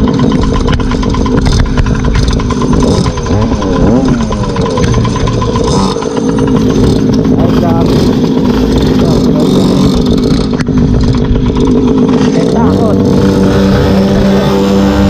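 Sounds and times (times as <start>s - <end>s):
two-stroke scooter engines running: 0.0s - 15.0s.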